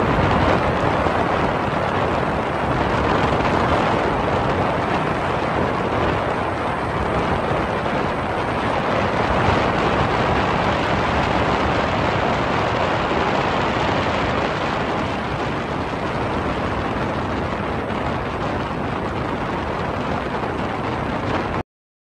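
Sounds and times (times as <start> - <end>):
motorboat engine: 0.0 - 21.6
water rushing: 0.0 - 21.6
wind noise: 0.0 - 21.6.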